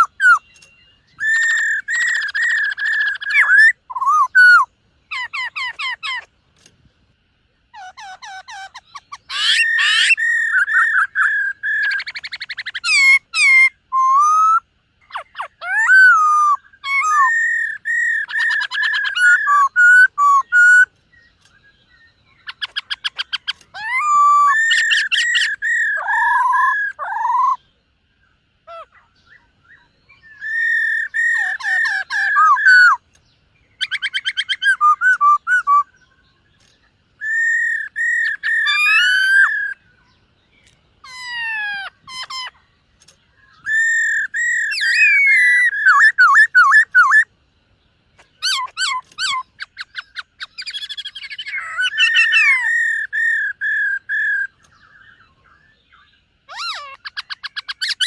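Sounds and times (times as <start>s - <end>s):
bird singing whistled trills: 0.0s - 6.3s, 7.8s - 47.3s, 48.2s - 58.0s.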